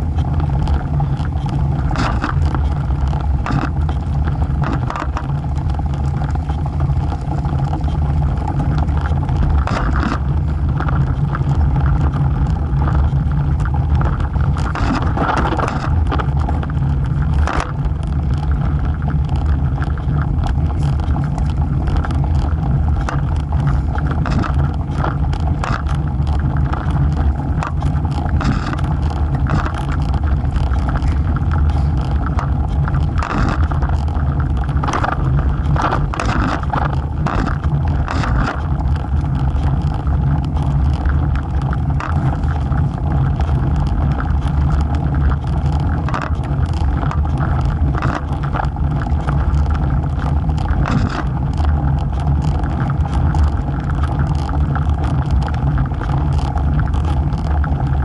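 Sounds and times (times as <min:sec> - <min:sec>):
bike clicks and rattles: 0:00.0 - 0:58.0
wind and road rumble: 0:00.0 - 0:58.0.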